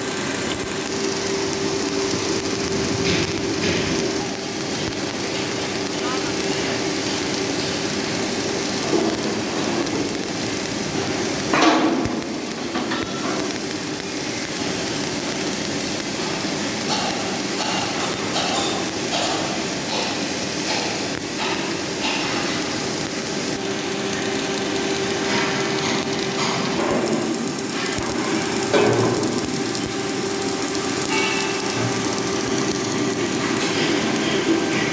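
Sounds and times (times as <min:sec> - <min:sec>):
steady hum: 0:00.0 - 0:13.7, 0:14.6 - 0:34.9
welding arc crackling: 0:00.0 - 0:34.9.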